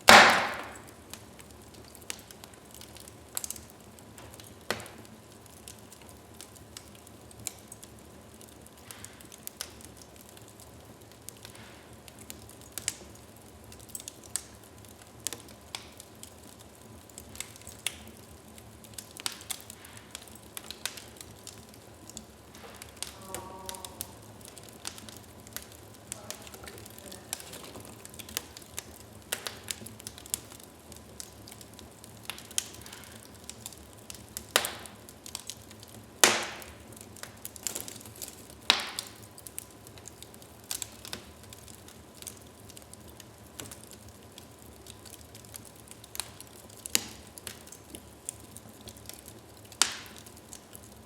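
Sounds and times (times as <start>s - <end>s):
loud pops from burning logs: 0.0s - 51.0s
wood fire crackling: 0.0s - 51.0s.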